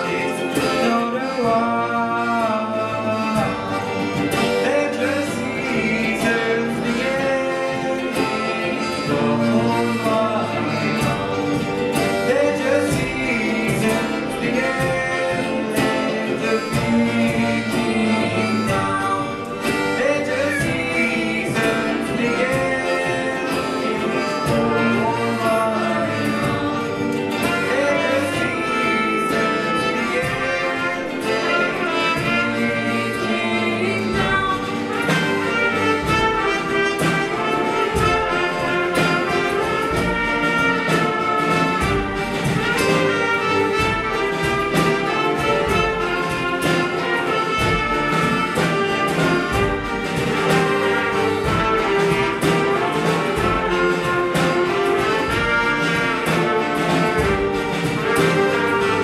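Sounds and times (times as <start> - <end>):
strummed ukulele: 0.0 - 59.0
young man singing: 0.0 - 59.0.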